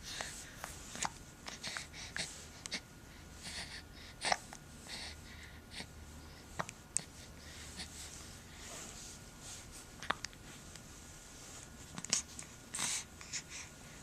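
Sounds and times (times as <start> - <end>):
soft breathing: 0.0 - 14.0.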